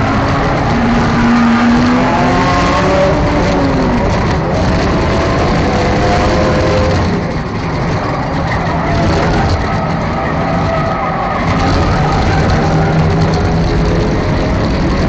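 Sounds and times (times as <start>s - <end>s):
race car engine running: 0.0s - 15.0s.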